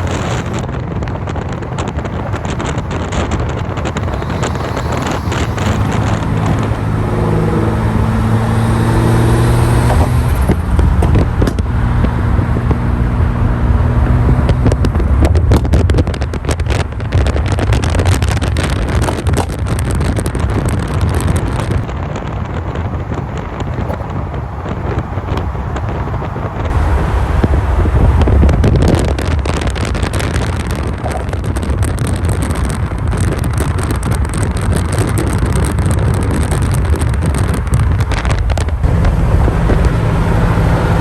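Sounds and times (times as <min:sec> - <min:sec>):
car engine running loud: 0:00.0 - 0:41.0
wind buffeting microphone: 0:00.0 - 0:41.0.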